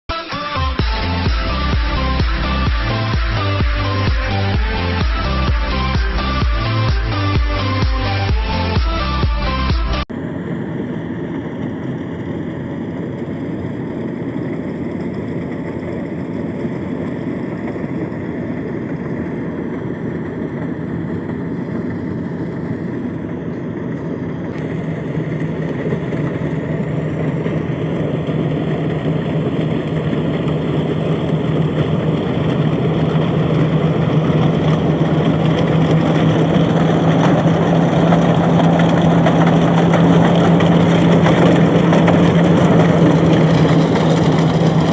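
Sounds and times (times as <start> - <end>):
harvester engine running: 0.1 - 44.9
steady hum: 0.1 - 44.9.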